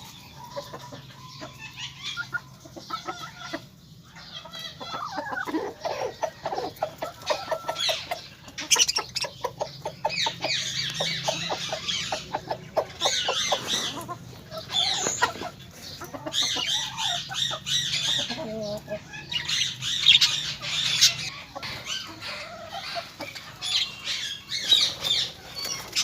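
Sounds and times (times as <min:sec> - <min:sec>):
birds clucking and chirping: 0:00.0 - 0:26.0.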